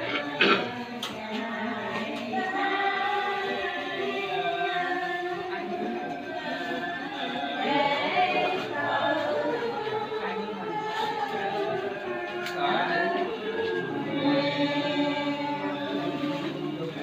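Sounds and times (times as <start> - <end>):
group chanting in unison: 0.0 - 17.0.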